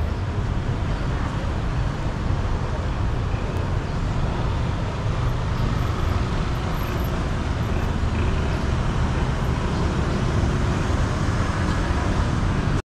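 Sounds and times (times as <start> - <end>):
road traffic rumble: 0.0 - 12.8.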